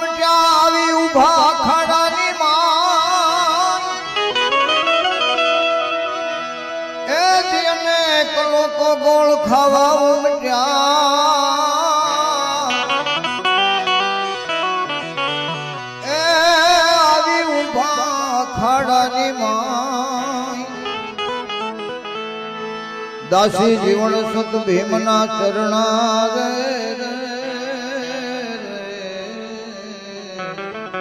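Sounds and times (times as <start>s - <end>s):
man singing devotional song: 0.0s - 5.4s, 6.0s - 31.0s
plucked string accompaniment: 0.0s - 31.0s.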